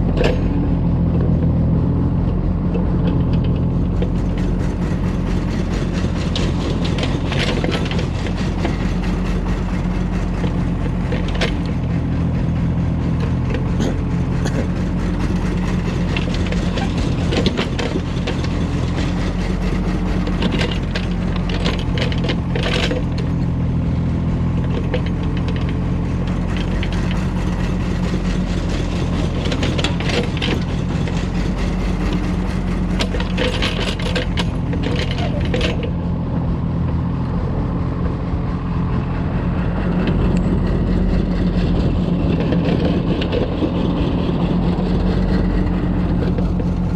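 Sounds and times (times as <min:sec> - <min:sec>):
excavator diesel engine: 0:00.0 - 0:46.9
knocks and clatter: 0:02.7 - 0:23.6, 0:24.3 - 0:37.3, 0:38.9 - 0:46.9.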